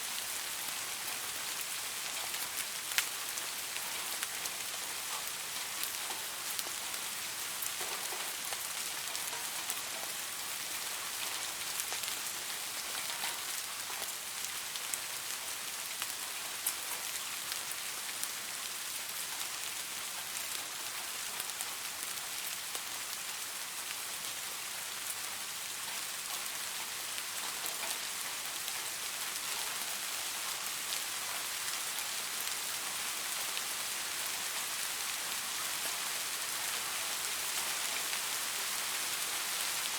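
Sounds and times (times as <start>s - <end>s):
steady rainfall pattering: 0.0s - 39.9s.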